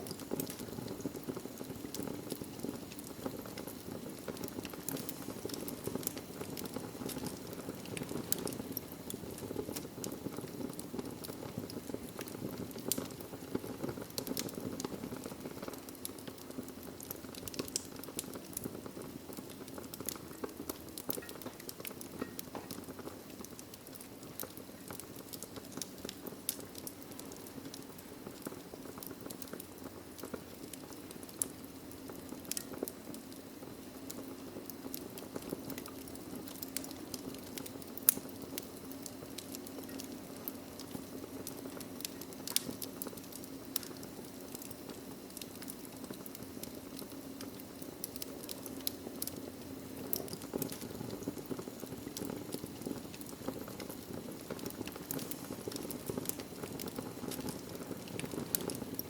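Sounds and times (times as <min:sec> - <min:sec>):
logs crackling and popping: 0:00.0 - 0:59.0
low hiss of flame: 0:00.0 - 0:59.0.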